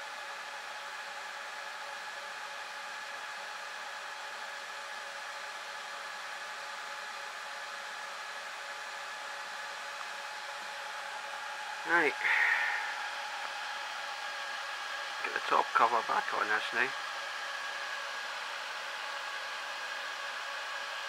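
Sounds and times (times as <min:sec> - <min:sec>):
server cooling fans whirring: 0:00.0 - 0:21.0.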